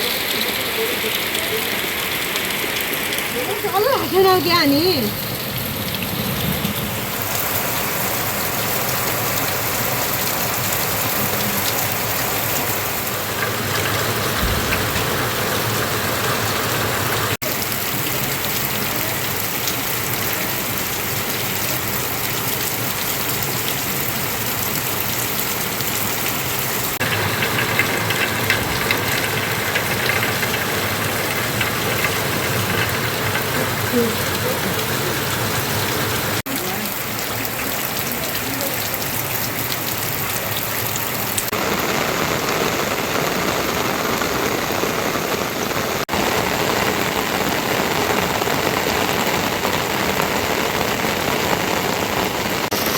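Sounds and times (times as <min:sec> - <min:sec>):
heavy rain falling: 0:00.0 - 0:52.9
raindrop patter: 0:00.0 - 0:52.9.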